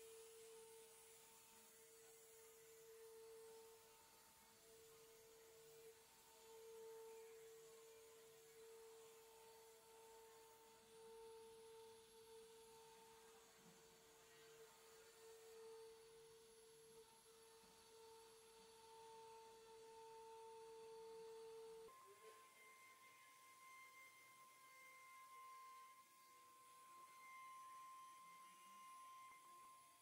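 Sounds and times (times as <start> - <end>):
router spindle whine: 0.0 - 30.0.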